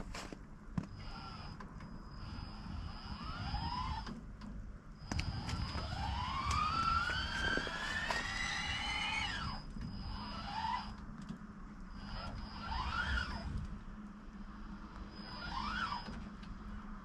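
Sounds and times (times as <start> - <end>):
steady low hum: 0.0 - 17.0
motor whine rising and falling: 0.8 - 4.3, 5.0 - 11.3, 11.9 - 17.0.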